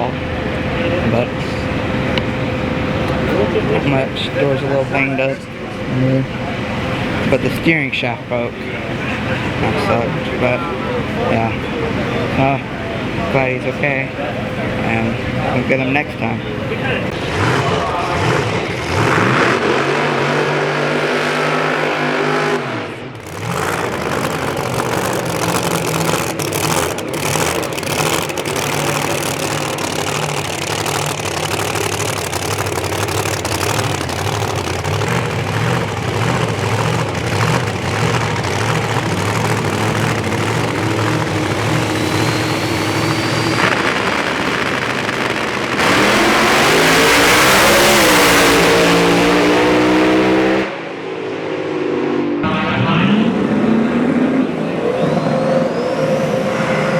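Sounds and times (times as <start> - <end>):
drag race car engines revving: 0.0 - 56.9.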